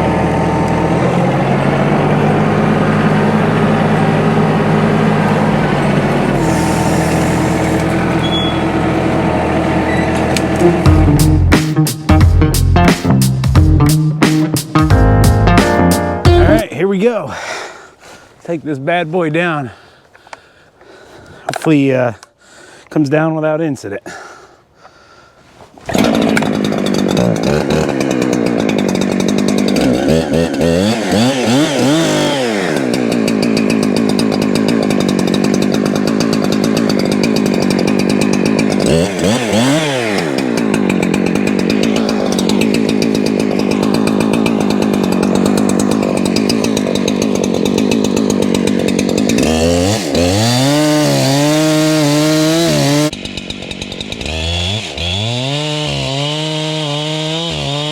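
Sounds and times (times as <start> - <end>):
chainsaw cutting at full throttle: 0.0 - 14.1, 15.2 - 16.6, 25.8 - 57.9.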